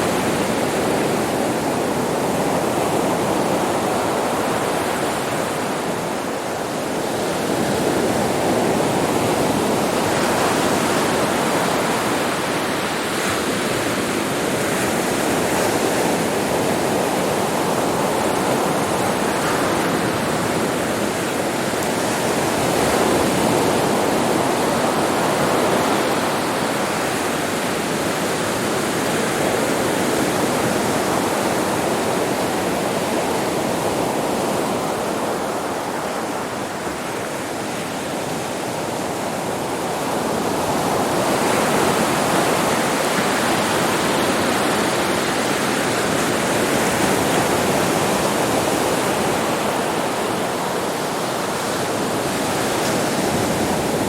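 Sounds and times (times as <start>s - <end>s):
sea surf breaking on beach: 0.0s - 54.0s.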